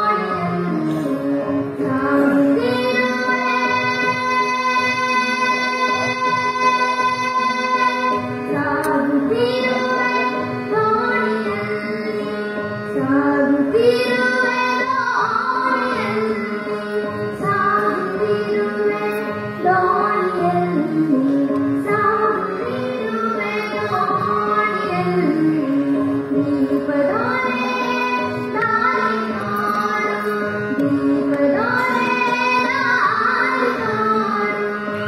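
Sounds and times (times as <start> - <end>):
woman singing: 0.0 - 35.0.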